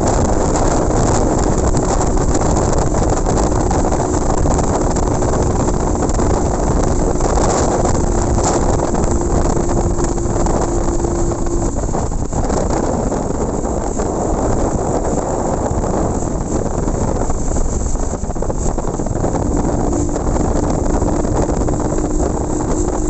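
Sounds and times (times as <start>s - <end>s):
motorcycle engine drone: 0.0s - 23.0s
wind rush on microphone: 0.0s - 23.0s.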